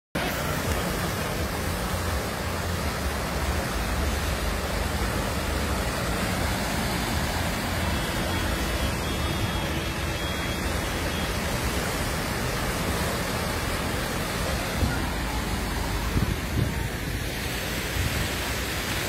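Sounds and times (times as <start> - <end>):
floodwater rushing through stream: 0.1 - 19.0.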